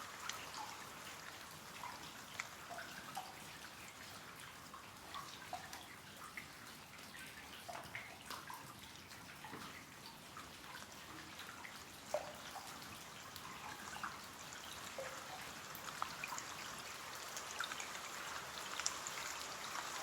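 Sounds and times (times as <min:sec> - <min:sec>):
rain tapping on window glass: 0:00.0 - 0:08.5, 0:09.2 - 0:20.0.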